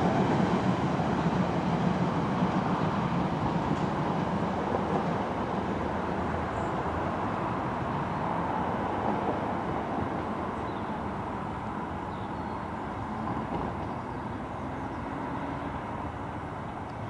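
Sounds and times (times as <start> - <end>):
underground trains rumbling away: 0.0 - 16.9.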